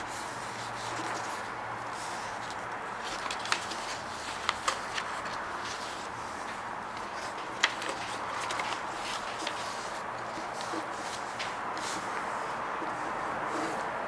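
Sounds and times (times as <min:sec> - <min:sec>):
paper being folded: 0:00.0 - 0:13.9
paper crackling: 0:00.1 - 0:14.0.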